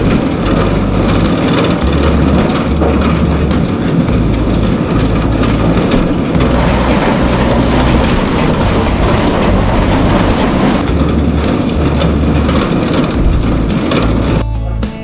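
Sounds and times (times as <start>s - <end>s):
grain auger clattering: 0.0s - 14.4s
tractor engine rumble: 0.0s - 14.8s.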